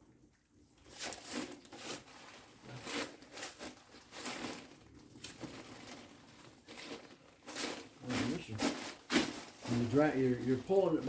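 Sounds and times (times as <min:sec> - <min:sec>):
rustling and scuffing handling noises: 0:00.9 - 0:11.0.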